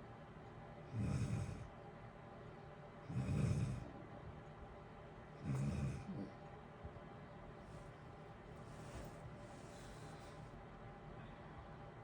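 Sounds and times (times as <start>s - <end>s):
room heater hiss and hum: 0.0s - 12.0s.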